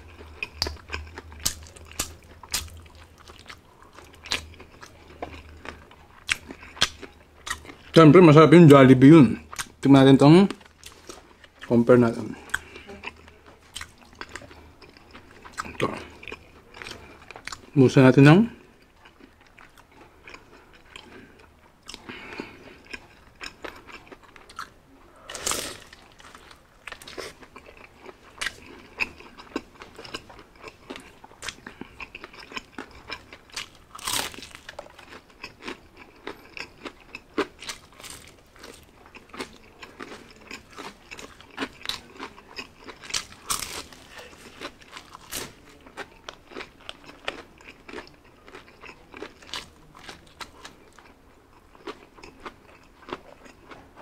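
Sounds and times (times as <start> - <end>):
crunching fried chicken: 0.0 - 8.8, 18.5 - 54.0.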